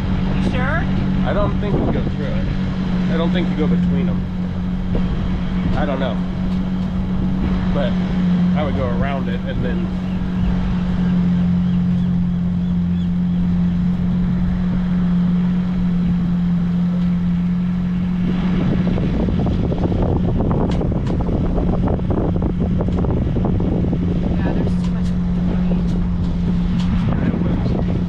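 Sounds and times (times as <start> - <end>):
outboard motor humming: 0.0 - 28.0.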